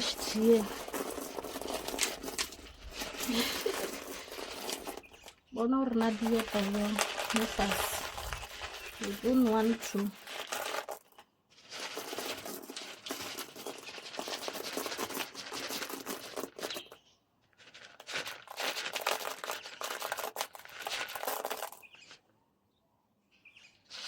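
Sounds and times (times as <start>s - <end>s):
feed pellets pouring: 0.0s - 17.0s, 17.6s - 22.2s
feed bag rustling: 0.0s - 22.1s.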